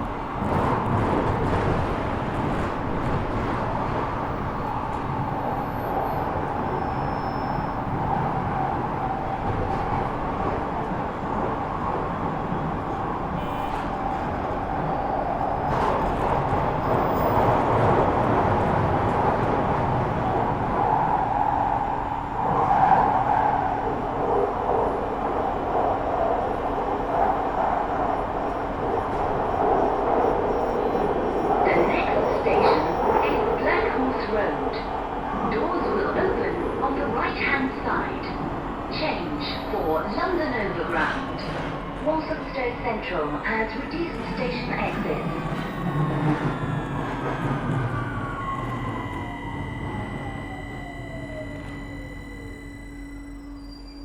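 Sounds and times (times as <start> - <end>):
train running rumble: 0.0 - 54.0.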